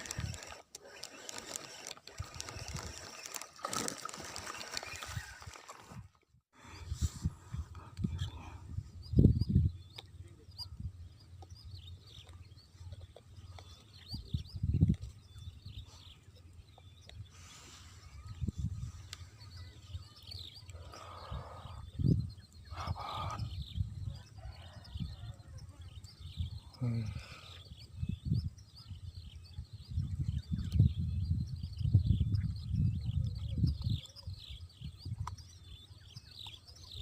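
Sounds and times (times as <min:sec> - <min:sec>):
small birds chirping: 0:06.7 - 0:37.0.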